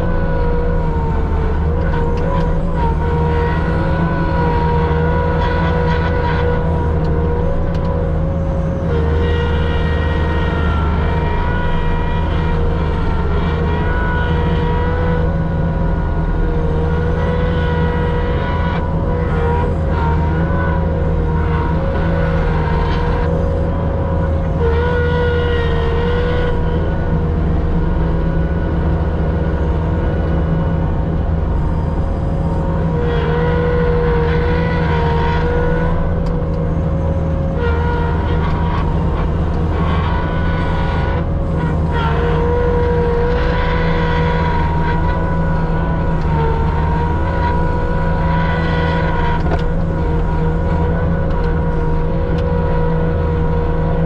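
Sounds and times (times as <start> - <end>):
machine humming with a whine: 0.0 - 54.0.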